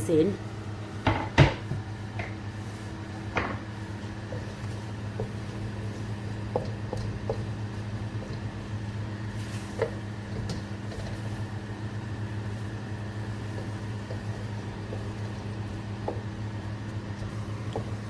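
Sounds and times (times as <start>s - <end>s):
appliance motor hum: 0.0s - 18.0s.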